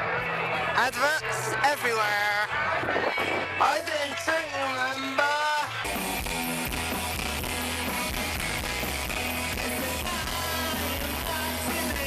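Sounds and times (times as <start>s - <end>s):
energetic music with guitar: 0.0s - 12.0s.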